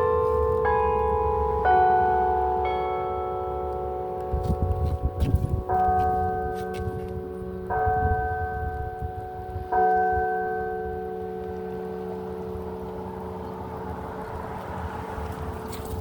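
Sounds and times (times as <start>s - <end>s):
carillon bells ringing: 0.0s - 14.2s.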